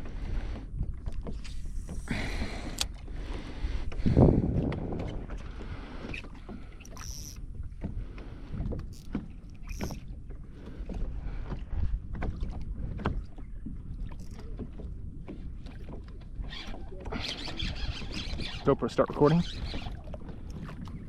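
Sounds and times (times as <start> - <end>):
low wind rumble: 0.0 - 6.8, 7.4 - 21.0
water splashing against kayak hull: 0.0 - 21.0.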